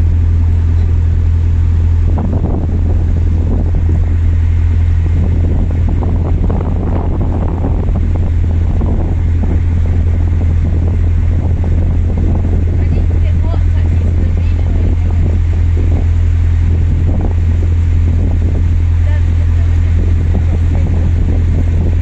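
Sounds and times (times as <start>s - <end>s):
boat engine droning: 0.0s - 22.0s
wind buffeting microphone: 0.0s - 22.0s.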